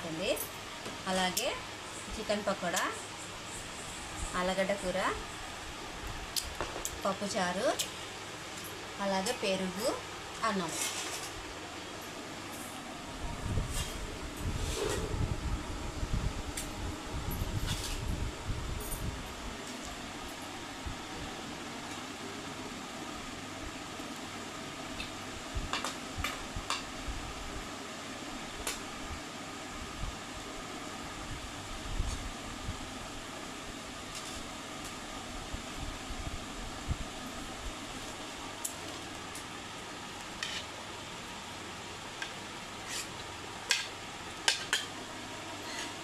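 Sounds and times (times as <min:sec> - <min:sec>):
fan-like background hiss: 0:00.0 - 0:46.0.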